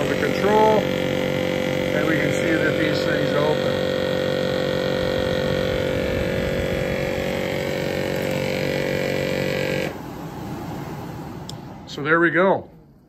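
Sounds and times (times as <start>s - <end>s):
fan motors humming: 0.0s - 13.0s.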